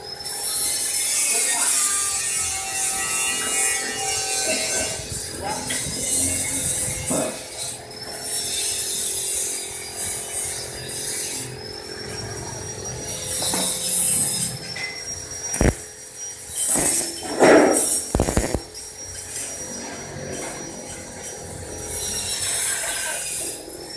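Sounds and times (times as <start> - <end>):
rasping scraping: 1.8 - 12.1, 12.9 - 23.7.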